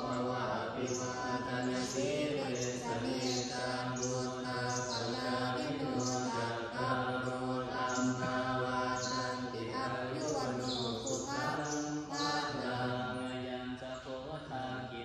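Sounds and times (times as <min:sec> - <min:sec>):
monks chanting together: 0:00.0 - 0:15.0.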